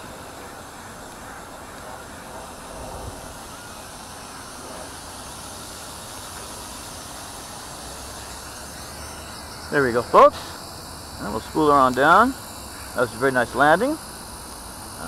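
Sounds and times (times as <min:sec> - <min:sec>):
rc helicopter rotor whirring: 0:00.0 - 0:15.0.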